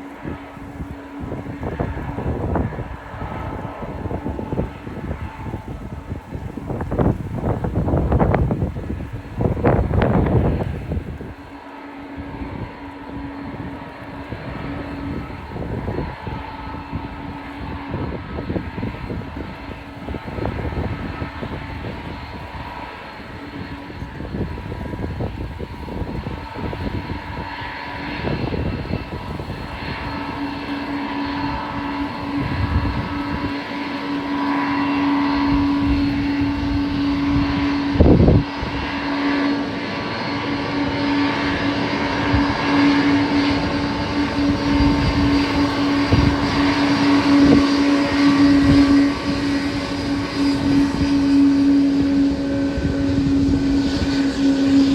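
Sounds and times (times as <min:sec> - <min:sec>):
jet engines running: 0:00.0 - 0:54.9
wind buffeting microphone: 0:00.0 - 0:54.9.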